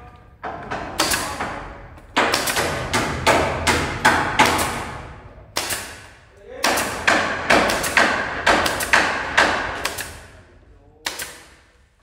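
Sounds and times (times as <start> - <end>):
nail gun shots: 0.7 - 10.4, 11.0 - 11.7.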